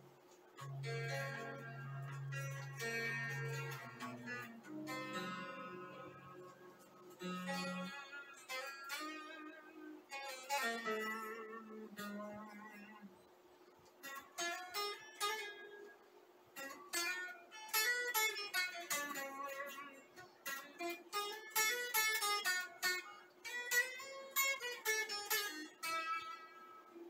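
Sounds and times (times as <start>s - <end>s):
steady hum: 0.0s - 27.0s
electric guitar melody: 0.5s - 27.0s.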